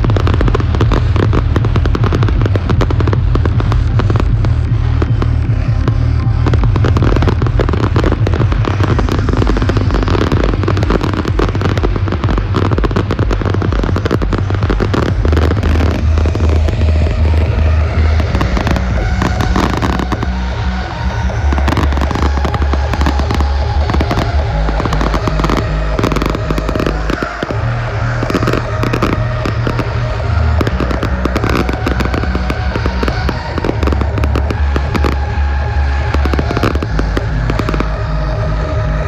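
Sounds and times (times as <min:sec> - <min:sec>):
fireworks crackling and popping: 0:00.0 - 0:39.0
loud music with heavy bass: 0:00.0 - 0:39.0.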